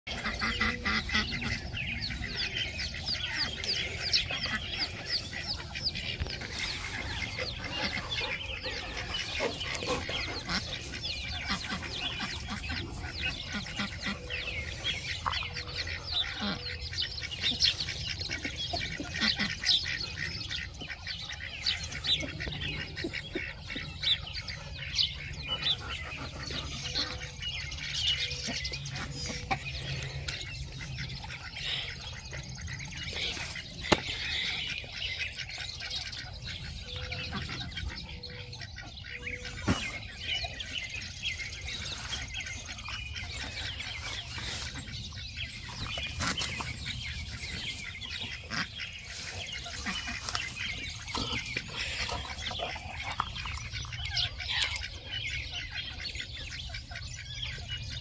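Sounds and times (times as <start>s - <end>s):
chicks peeping: 0.1s - 58.0s
ducks calling: 0.1s - 58.0s.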